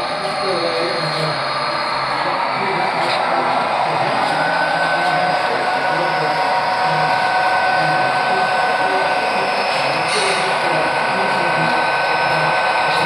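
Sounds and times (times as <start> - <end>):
model train whirring hum: 0.0 - 13.0.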